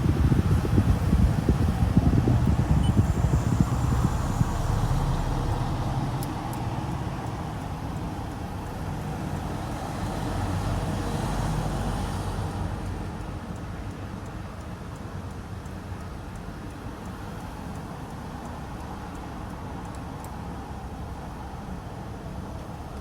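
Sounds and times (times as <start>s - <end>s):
car engine under light throttle: 0.0s - 23.0s.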